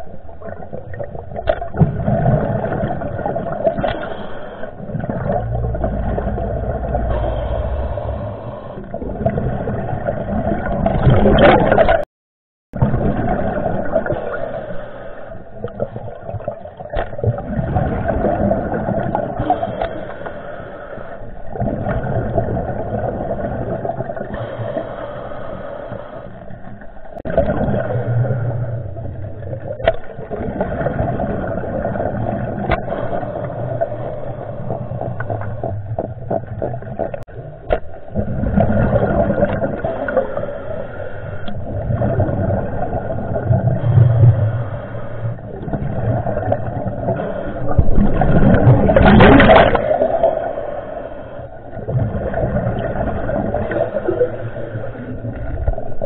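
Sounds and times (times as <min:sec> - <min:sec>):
muffled water noise: 0:00.0 - 0:12.1, 0:12.7 - 0:56.0.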